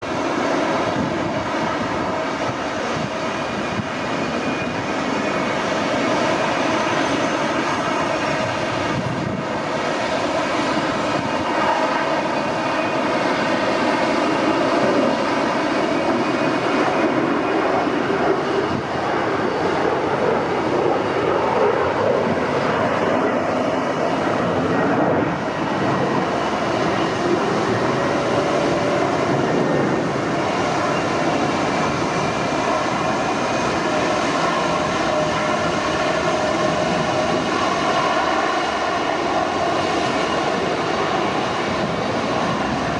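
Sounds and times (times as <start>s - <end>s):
jet engines running with whine: 0.0s - 42.9s.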